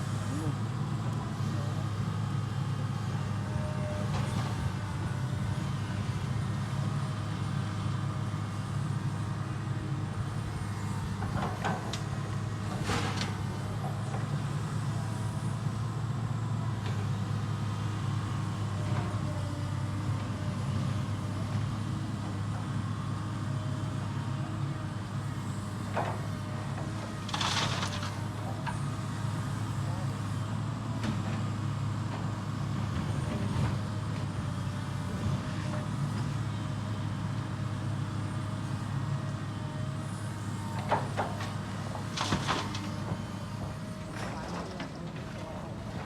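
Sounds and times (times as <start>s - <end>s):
heavy machine engine running: 0.0s - 46.0s.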